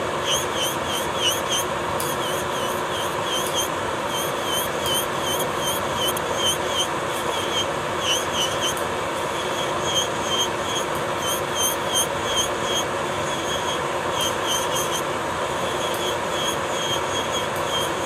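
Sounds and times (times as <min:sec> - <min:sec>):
electric nail drill motor hum: 0:00.0 - 0:18.0
bit squeaking on nail: 0:00.2 - 0:18.0.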